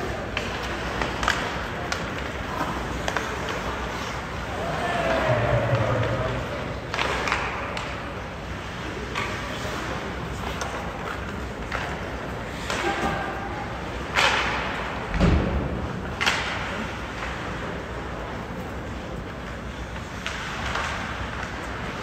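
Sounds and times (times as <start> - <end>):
hockey sticks and skates on ice: 0.0 - 22.0.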